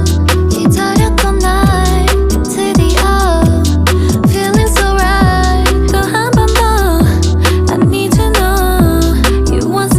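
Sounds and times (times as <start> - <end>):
pop music with sliding bass: 0.0 - 9.9.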